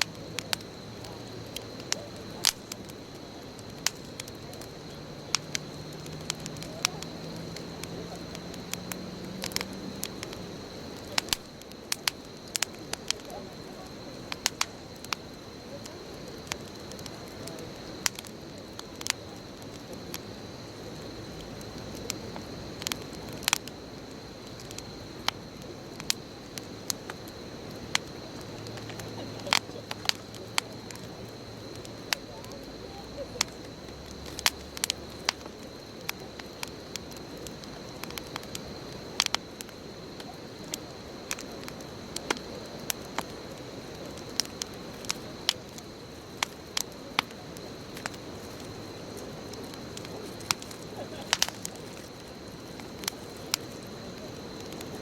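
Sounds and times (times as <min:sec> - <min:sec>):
bonfire crackling and popping: 0:00.0 - 0:55.0
steady hiss: 0:00.0 - 0:55.0.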